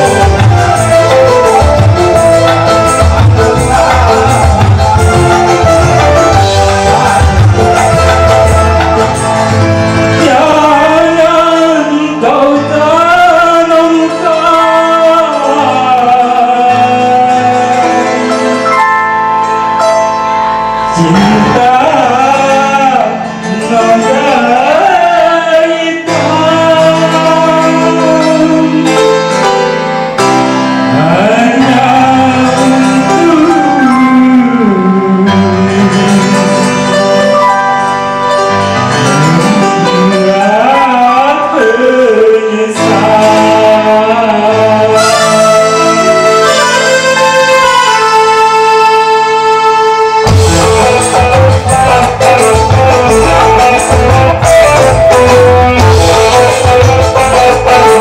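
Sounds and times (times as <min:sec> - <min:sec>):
man singing into microphone: 0:00.0 - 0:18.8, 0:20.8 - 0:37.5, 0:38.4 - 0:58.0
keyboard-led band accompaniment: 0:00.0 - 0:58.0.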